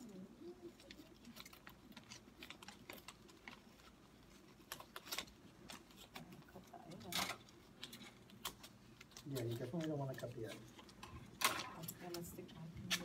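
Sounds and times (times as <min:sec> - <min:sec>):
paper envelopes rustling: 0:00.0 - 0:13.0.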